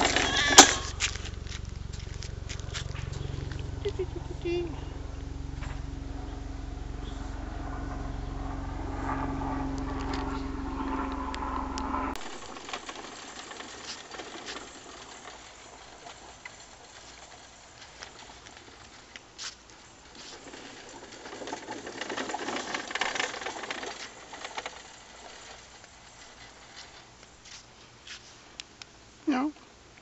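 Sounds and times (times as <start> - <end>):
low hum: 0.0 - 27.0
toy wagon rolling over asphalt: 0.0 - 28.6.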